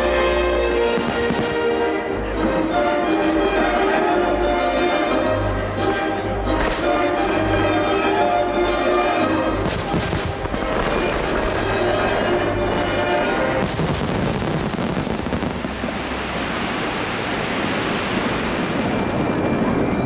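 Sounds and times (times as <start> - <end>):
fireworks exploding and crackling: 0.0 - 4.0, 5.8 - 8.2, 9.4 - 20.0
music soundtrack: 0.0 - 16.2.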